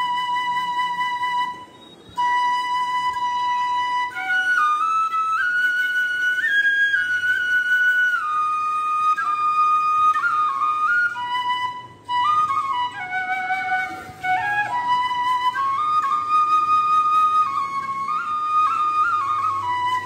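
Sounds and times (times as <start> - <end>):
solo flute melody: 0.0 - 20.0.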